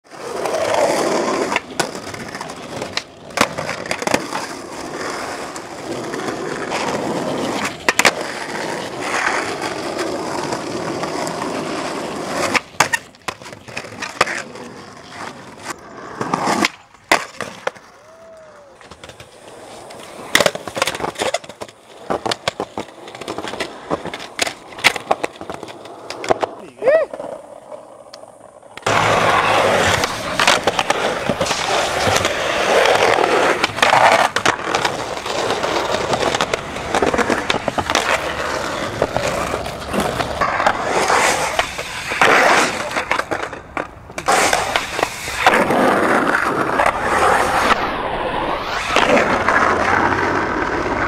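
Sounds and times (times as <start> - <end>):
skateboard wheels rolling on pavement: 0.0 - 51.0
skateboard wooden clacks: 0.2 - 48.0.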